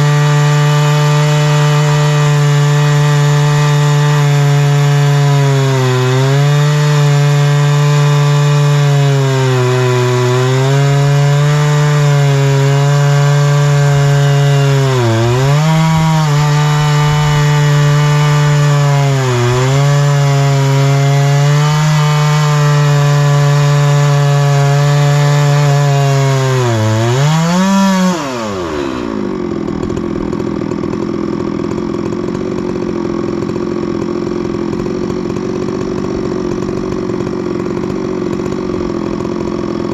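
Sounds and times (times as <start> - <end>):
chainsaw mill cutting log: 0.0 - 39.9.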